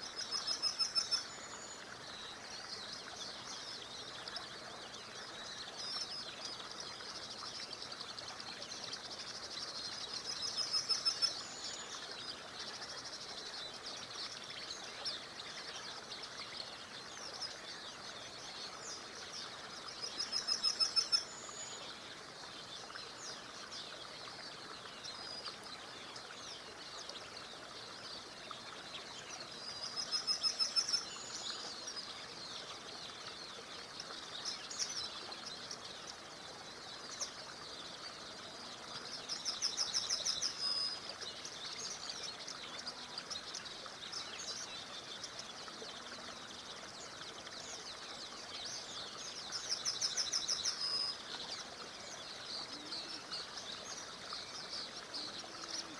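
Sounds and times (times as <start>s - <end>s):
bird trill song: 0.0s - 55.9s
small river rushing: 0.0s - 55.9s
songbirds chirping: 0.0s - 55.9s.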